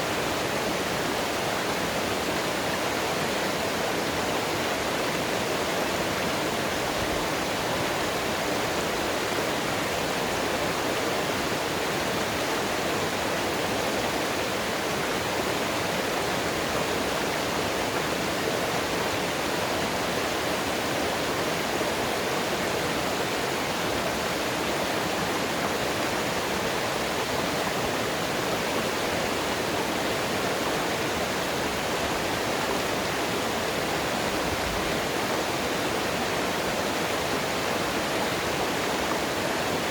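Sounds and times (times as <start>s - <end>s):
mountain water rushing: 0.0s - 39.9s.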